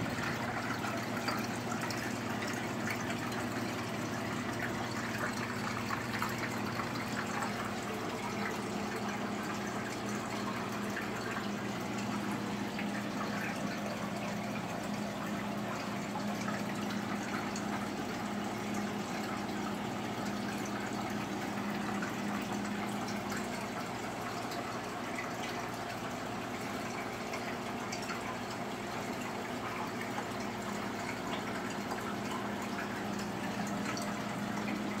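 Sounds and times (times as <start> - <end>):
aquarium pump hum: 0.0 - 35.0
water trickling and bubbling: 0.0 - 35.0.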